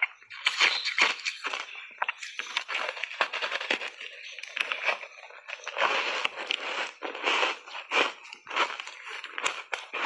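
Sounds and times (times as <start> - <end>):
chewing crunchy ice: 0.0 - 10.0.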